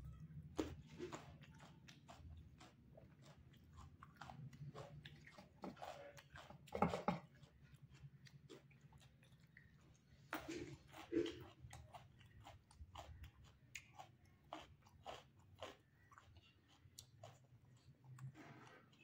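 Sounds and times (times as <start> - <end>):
wet mouth chewing: 0.4 - 19.0.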